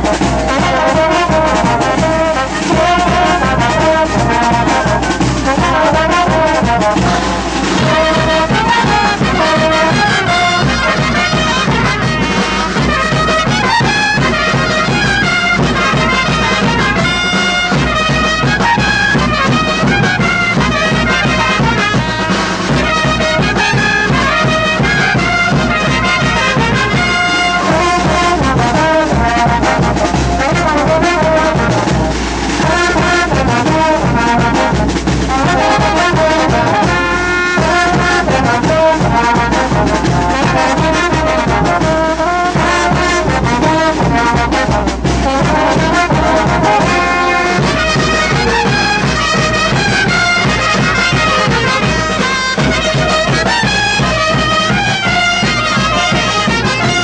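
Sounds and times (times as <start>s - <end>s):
brass band dance music: 0.0s - 57.0s.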